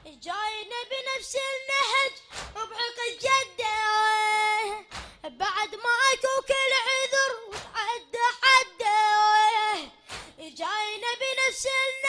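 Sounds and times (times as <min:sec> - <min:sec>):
boy chanting into a microphone: 0:00.0 - 0:12.0.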